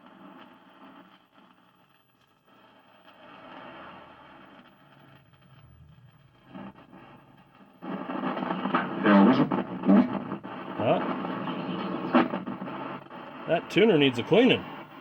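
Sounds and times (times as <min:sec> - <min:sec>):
crackling television audio: 0:00.0 - 0:15.0
television static hiss: 0:00.0 - 0:15.0.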